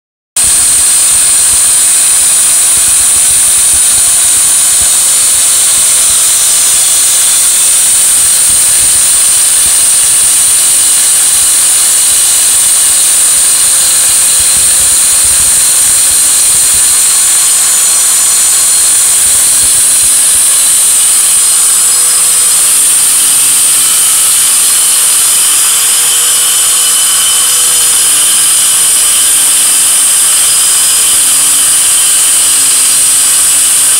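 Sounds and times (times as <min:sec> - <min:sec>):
tile cutter cutting stone: 0:00.4 - 0:33.9.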